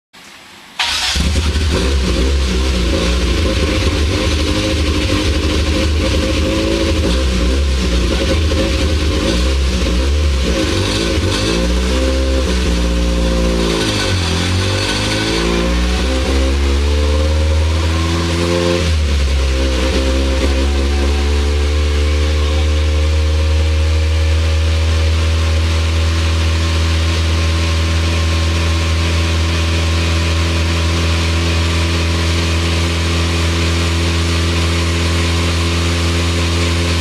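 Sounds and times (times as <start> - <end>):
car engine revving hard: 0.8 - 37.0.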